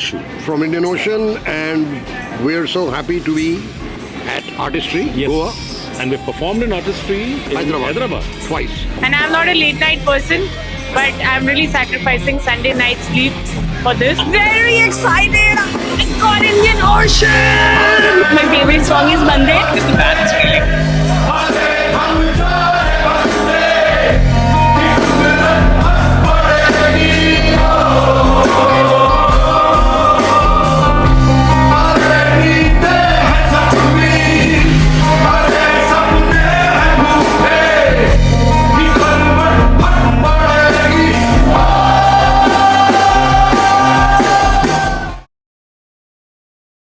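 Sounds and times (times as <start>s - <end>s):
rock band music with singing: 5.6s - 45.3s.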